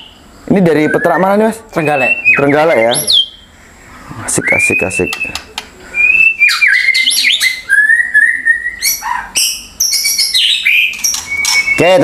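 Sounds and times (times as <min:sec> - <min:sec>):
bird singing whistles and chirps: 0:00.0 - 0:03.6, 0:04.2 - 0:12.0.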